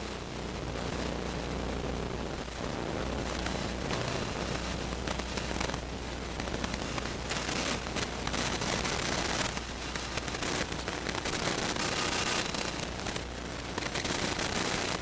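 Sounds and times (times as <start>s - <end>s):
crackling static hiss: 0.0s - 15.0s.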